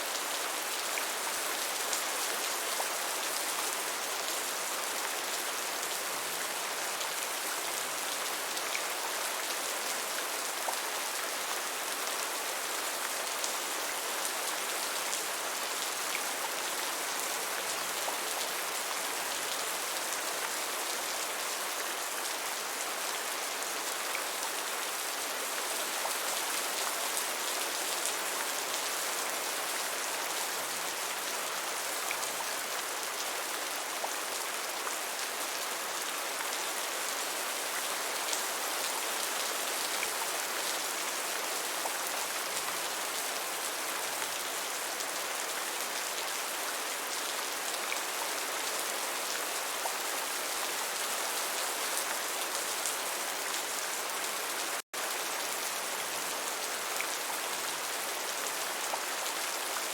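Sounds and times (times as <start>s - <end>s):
gentle rain: 0.0s - 59.9s.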